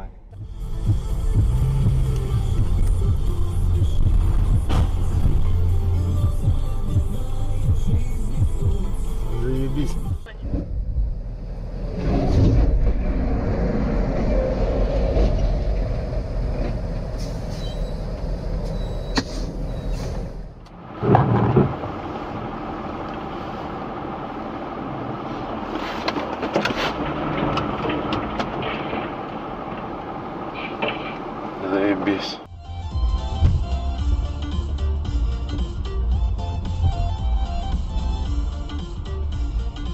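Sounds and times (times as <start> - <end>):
car road noise from inside: 0.0 - 39.9.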